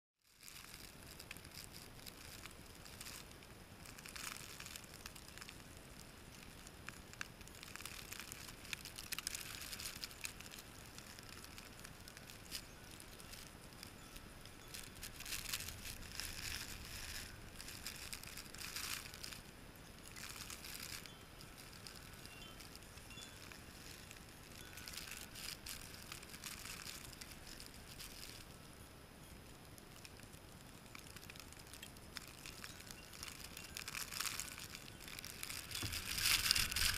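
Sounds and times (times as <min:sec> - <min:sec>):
snow ticking: 0:00.2 - 0:36.9.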